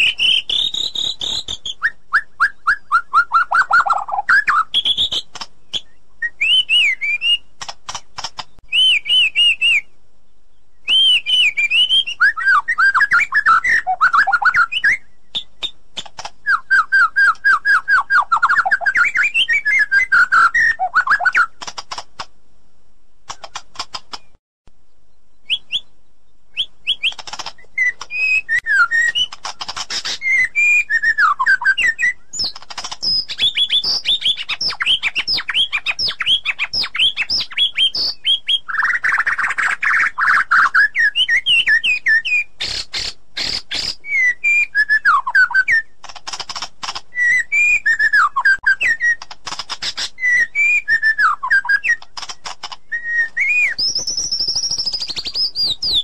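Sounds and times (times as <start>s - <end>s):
bird singing whistles and ticks: 0.0s - 22.0s, 25.3s - 56.0s.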